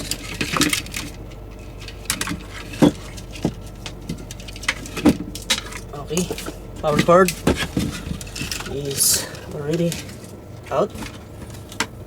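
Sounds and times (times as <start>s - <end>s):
power cord clicking and rattling: 0.0s - 12.0s.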